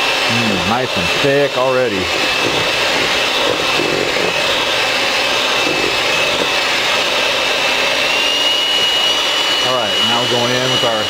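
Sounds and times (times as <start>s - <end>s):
electric hand mixer whirring: 0.0s - 11.0s
mixer motor whine: 0.0s - 11.0s.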